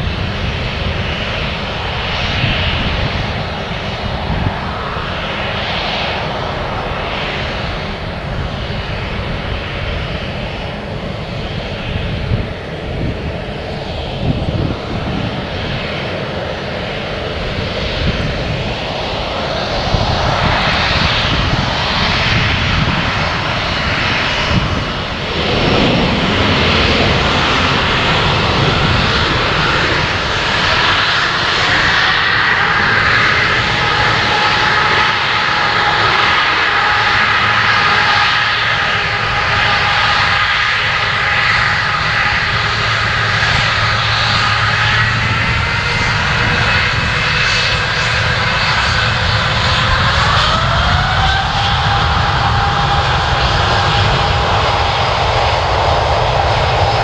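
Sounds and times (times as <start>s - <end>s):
jet engines rumble and whine: 0.0s - 57.0s.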